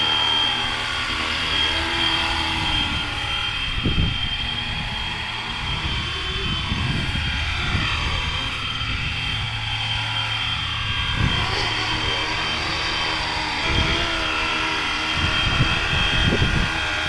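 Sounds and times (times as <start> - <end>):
low rumbling gusts: 0.0 - 17.0
rc helicopter motor whine: 0.0 - 17.0
rotors humming: 0.0 - 17.0.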